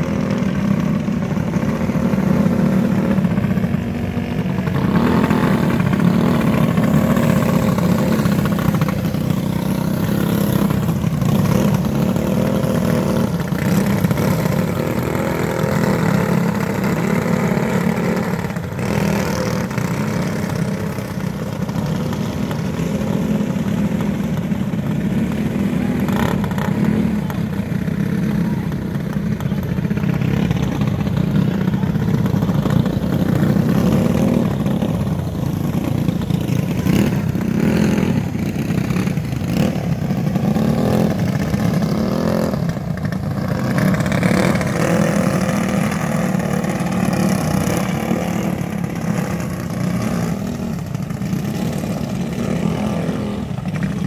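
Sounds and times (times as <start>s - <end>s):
racing car engines buzzing: 0.0s - 54.0s.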